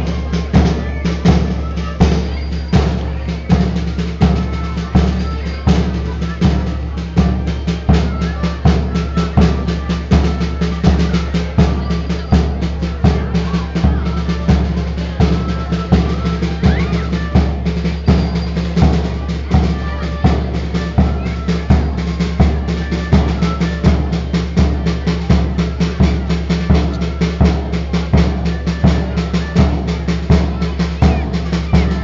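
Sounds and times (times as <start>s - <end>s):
steady drum beat: 0.0s - 32.0s.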